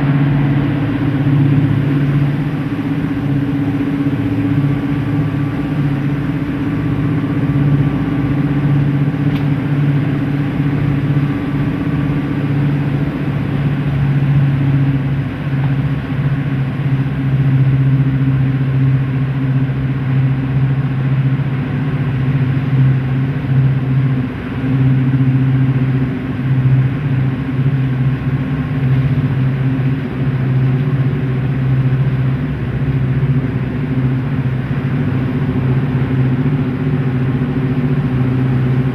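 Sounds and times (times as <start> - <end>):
diesel locomotive engines running: 0.0 - 38.9.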